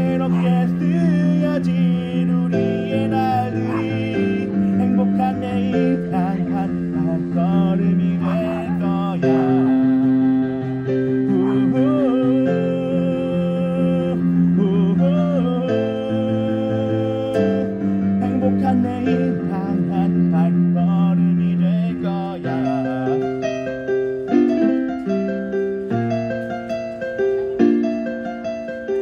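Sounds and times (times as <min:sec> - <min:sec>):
man singing: 0:00.0 - 0:23.8
electric keyboard piano chords: 0:00.0 - 0:29.0.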